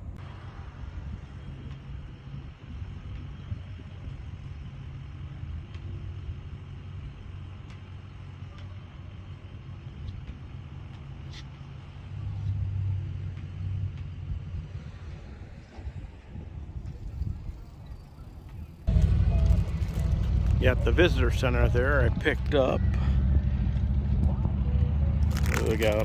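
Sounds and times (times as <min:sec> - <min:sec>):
vehicle engines rumbling: 0:00.0 - 0:26.0.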